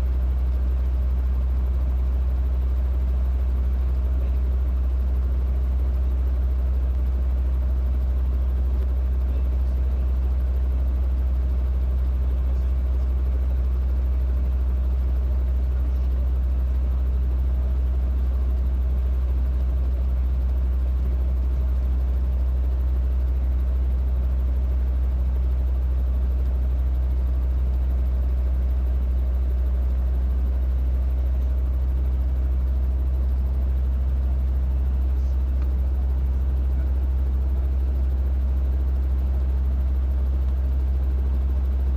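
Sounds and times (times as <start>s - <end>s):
helicopter engine and rotor drone: 0.0s - 41.9s.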